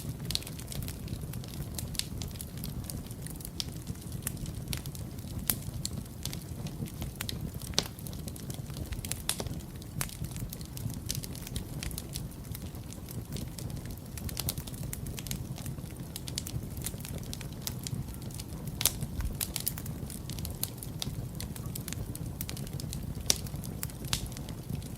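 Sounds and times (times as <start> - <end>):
fire crackling and popping: 0.0 - 24.9
low rumble of flames: 0.0 - 24.9.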